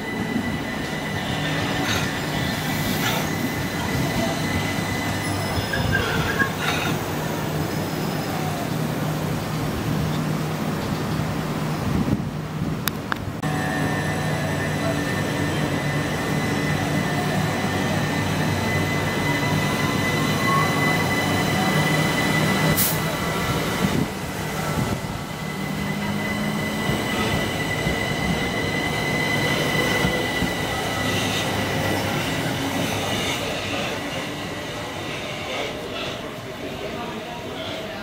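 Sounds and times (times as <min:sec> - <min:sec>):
electric train running on rails: 0:00.0 - 0:38.0.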